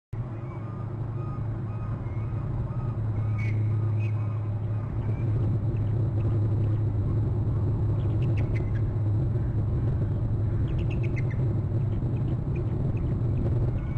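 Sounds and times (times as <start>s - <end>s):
steady low rumble: 0.2s - 13.9s.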